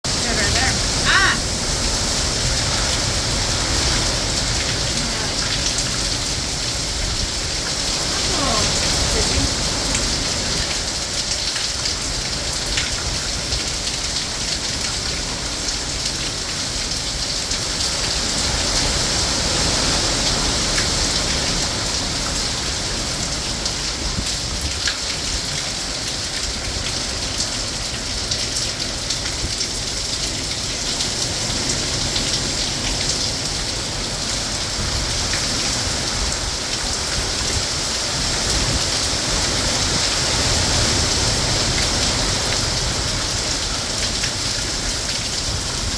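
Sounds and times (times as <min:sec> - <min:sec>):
heavy rain hissing on surfaces: 0:00.0 - 0:45.9.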